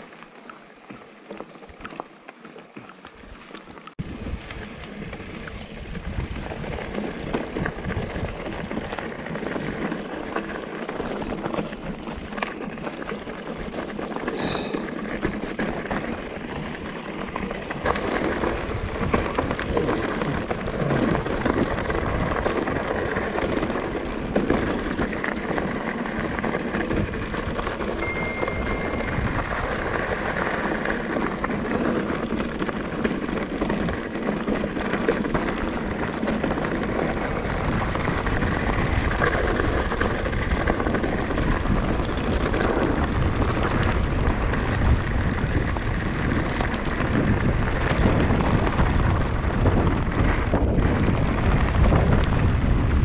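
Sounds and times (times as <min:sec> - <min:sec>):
bike tyres on stony track: 0:00.0 - 0:53.0
wind rumbling on microphone: 0:03.1 - 0:53.0.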